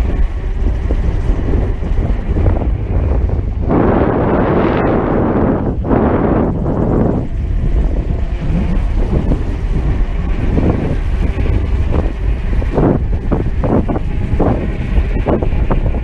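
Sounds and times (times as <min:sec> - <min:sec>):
low rumble: 0:00.0 - 0:16.0
wind rushing over microphone: 0:00.0 - 0:16.0.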